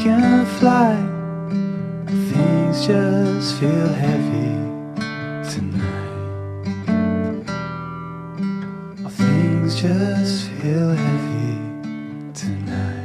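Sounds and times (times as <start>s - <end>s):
song with strummed acoustic guitar: 0.0s - 13.0s.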